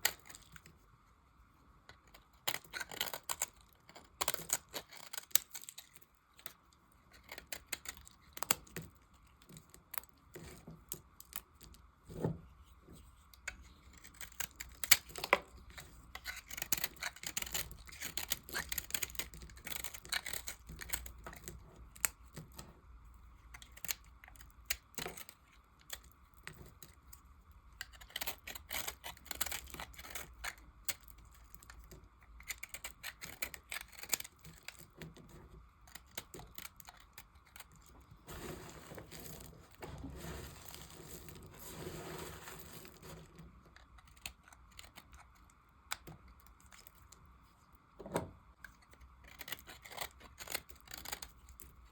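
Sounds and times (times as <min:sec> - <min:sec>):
knife cutting dry soap: 0:01.9 - 0:22.7, 0:23.5 - 0:47.1, 0:48.6 - 0:51.9.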